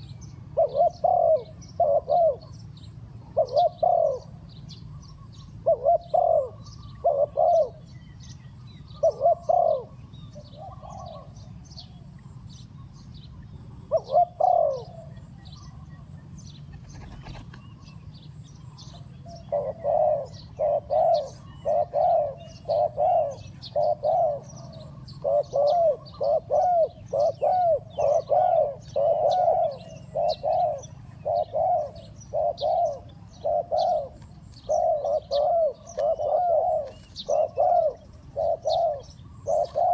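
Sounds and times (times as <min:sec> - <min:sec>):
dove cooing: 0:00.0 - 0:39.9
low steady hum: 0:00.0 - 0:39.9
small birds chirping: 0:00.0 - 0:39.9.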